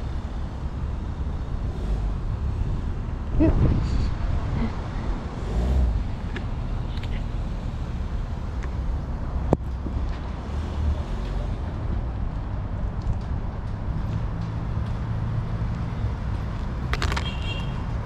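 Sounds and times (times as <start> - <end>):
street noise rumble: 0.0 - 18.0.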